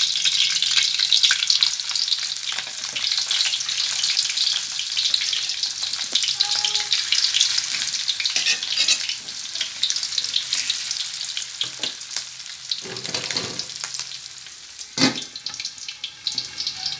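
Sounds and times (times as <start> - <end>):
meat patties sizzling in oil: 0.0 - 16.9.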